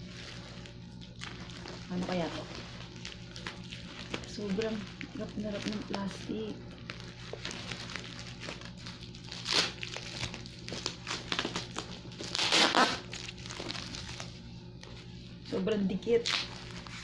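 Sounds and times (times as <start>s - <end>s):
plastic packaging crinkling: 0.0s - 15.4s, 16.0s - 17.0s.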